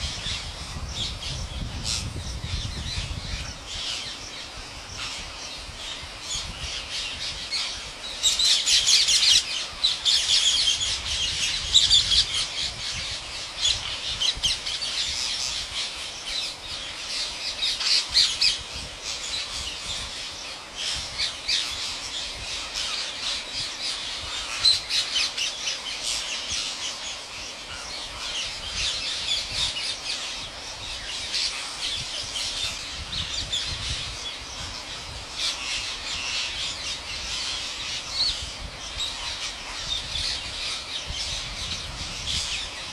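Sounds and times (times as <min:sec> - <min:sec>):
parakeets calling: 0:00.0 - 0:42.9.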